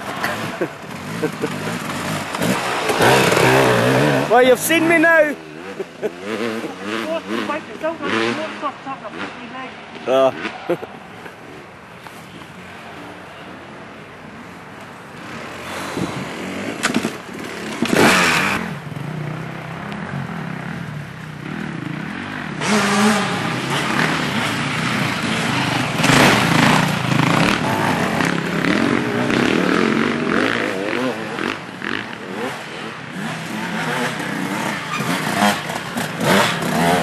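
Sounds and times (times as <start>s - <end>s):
motorcycle engines revving: 0.0s - 37.0s.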